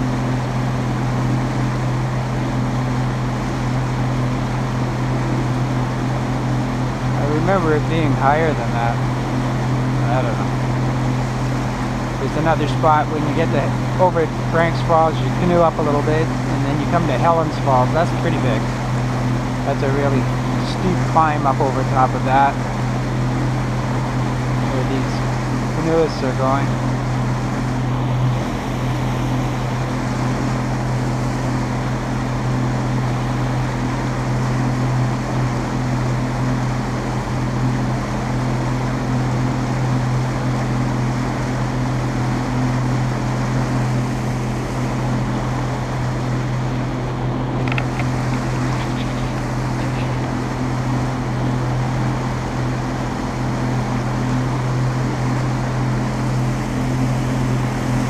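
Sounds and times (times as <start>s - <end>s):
motorboat engine humming: 0.0s - 58.0s.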